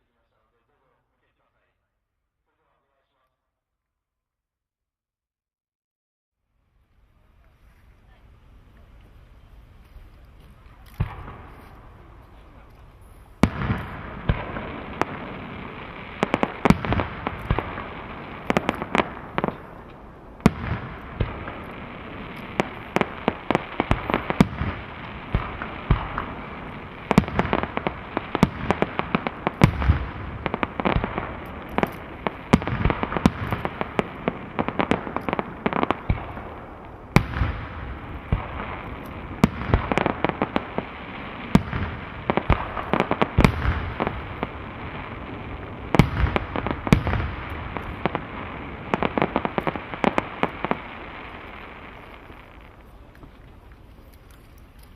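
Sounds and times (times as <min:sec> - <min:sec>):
fireworks bursting with crackling: 0:06.7 - 0:54.9.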